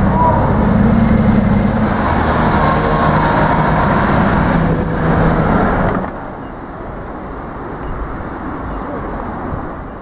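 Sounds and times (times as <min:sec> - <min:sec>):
street traffic noise: 0:00.0 - 0:10.0.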